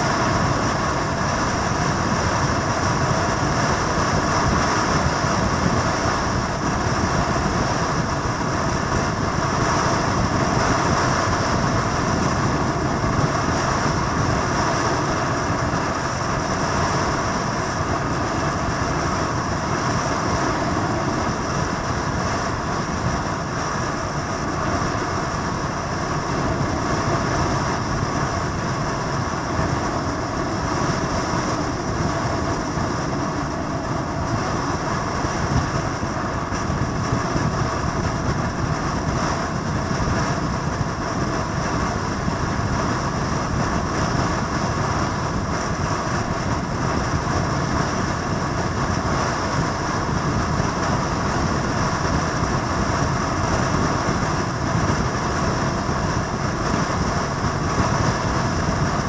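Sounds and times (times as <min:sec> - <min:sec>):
motor vehicle noise: 0:00.0 - 0:59.0.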